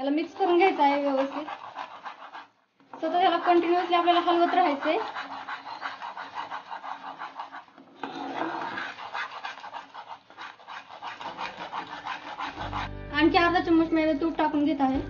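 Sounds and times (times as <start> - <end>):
metal spatula scraping pan: 0.0 - 13.0
syrup bubbling: 0.1 - 13.0.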